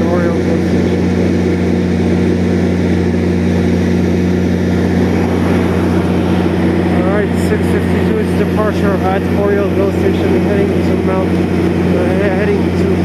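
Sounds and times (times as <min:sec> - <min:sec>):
diesel locomotive engine droning: 0:00.0 - 0:13.0.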